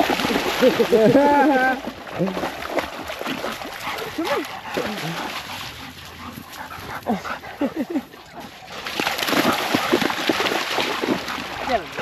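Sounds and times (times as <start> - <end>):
splashing in shallow water: 0.0 - 12.0.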